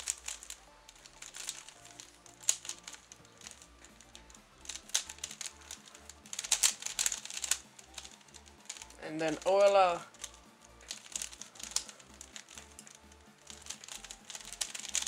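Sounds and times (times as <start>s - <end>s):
puzzle cube clicking: 0.0s - 15.0s
quiet background music: 0.0s - 15.0s.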